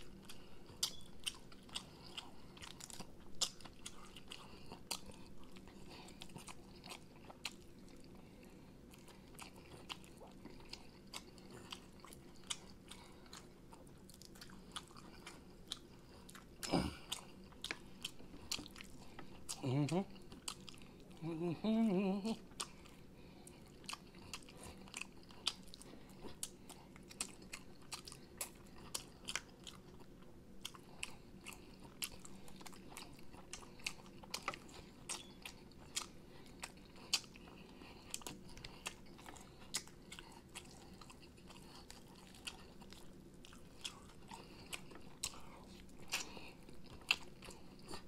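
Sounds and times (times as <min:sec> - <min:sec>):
man chewing: 0:00.0 - 0:48.0.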